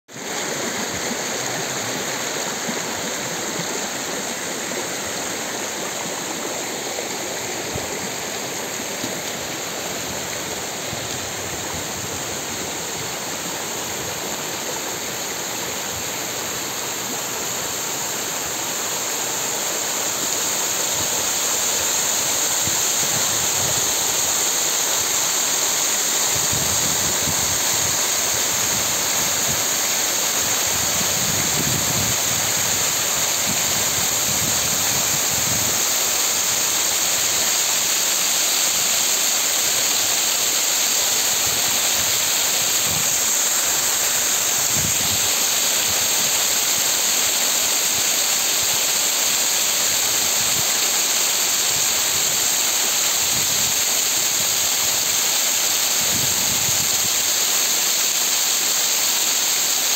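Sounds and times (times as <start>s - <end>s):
stream rushing over rocks: 0.1s - 59.9s.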